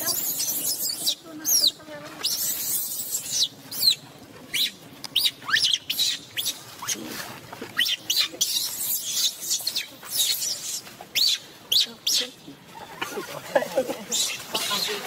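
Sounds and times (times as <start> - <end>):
baby monkey screaming: 0.0 - 7.0, 7.8 - 13.1, 14.1 - 15.0.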